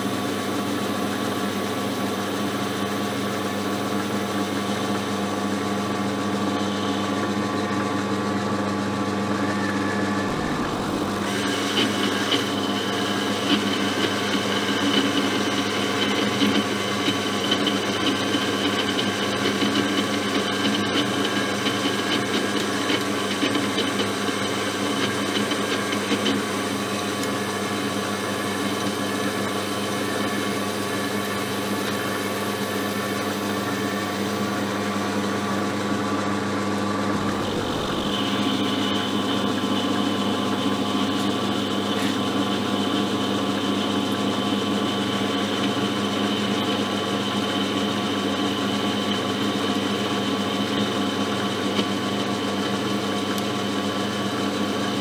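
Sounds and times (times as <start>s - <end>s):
lathe motor and gear whine: 0.0s - 55.0s.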